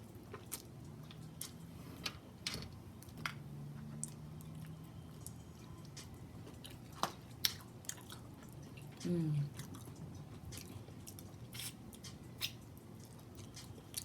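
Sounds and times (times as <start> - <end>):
chewing with soft mouth clicks: 0.2 - 1.7, 3.0 - 14.0.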